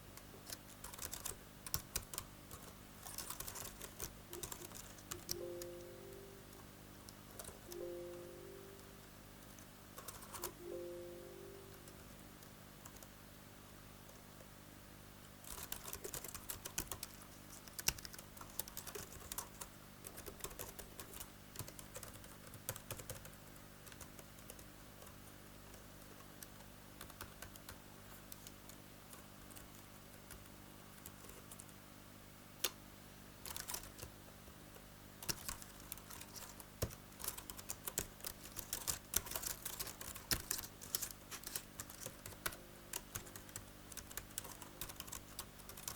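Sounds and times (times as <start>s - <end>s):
keyboard typing: 0.4s - 13.1s, 15.4s - 31.8s, 33.5s - 34.1s, 35.2s - 45.9s.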